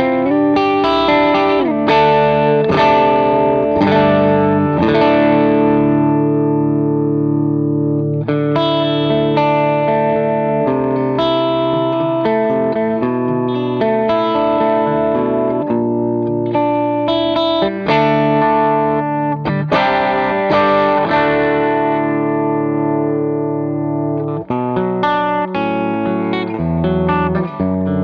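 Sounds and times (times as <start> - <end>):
electric guitar notes and chords: 0.0 - 28.0.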